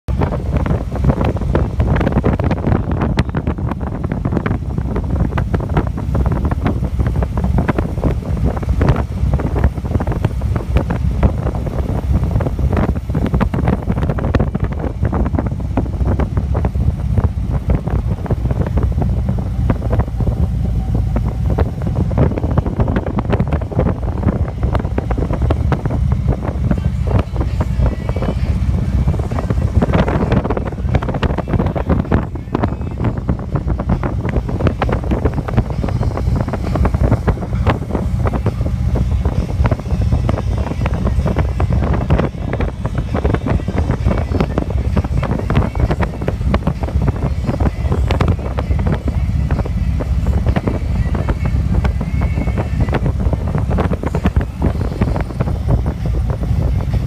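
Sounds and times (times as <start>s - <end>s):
vehicle road and engine rumble: 0.0s - 57.0s
wind buffeting microphone: 0.1s - 57.0s.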